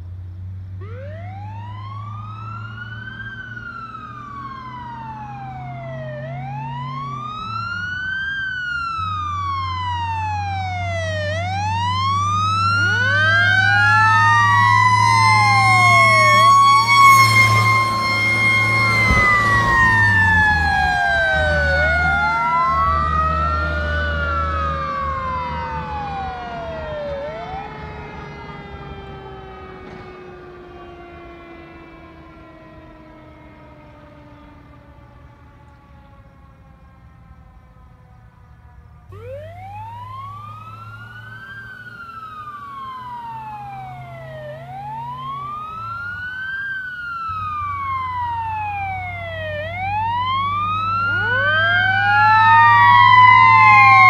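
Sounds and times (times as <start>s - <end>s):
truck engine: 0.0s - 54.0s
wailing siren: 0.7s - 54.0s
second siren tone: 0.8s - 54.0s.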